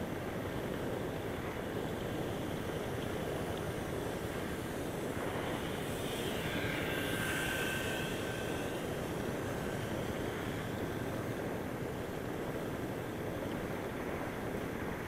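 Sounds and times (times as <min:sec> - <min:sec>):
electric motor and propeller whine: 0:00.0 - 0:15.0
steady rushing hiss: 0:00.0 - 0:15.0.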